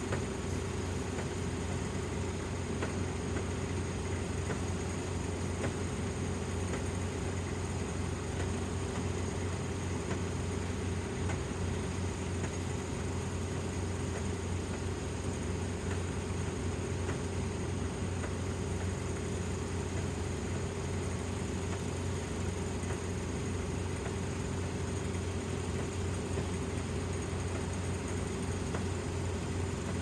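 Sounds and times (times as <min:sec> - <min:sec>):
combine harvester humming: 0:00.0 - 0:30.0.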